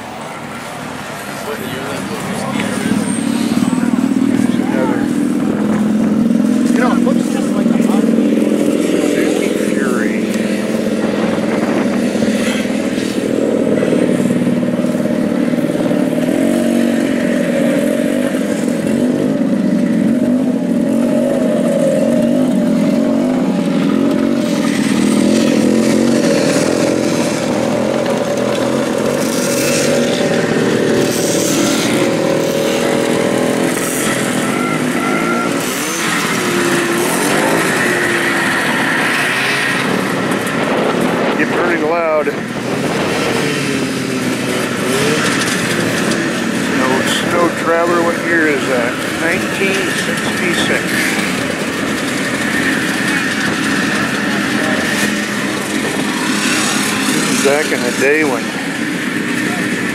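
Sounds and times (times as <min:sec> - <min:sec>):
snowmobile engines running: 0:00.0 - 0:59.9.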